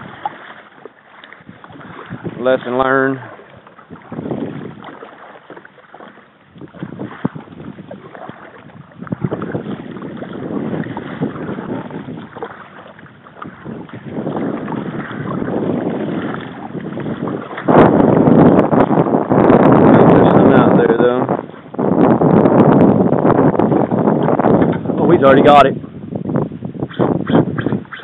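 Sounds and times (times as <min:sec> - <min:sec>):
water splashing against kayak: 0:00.0 - 0:28.0
wind buffeting microphone: 0:00.0 - 0:28.0.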